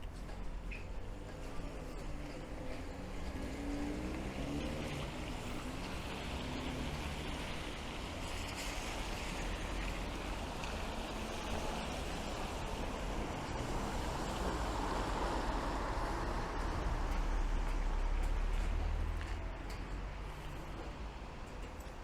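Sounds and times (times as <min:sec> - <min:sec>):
low traffic rumble: 0:00.0 - 0:22.0
steady rain on street: 0:00.0 - 0:22.0.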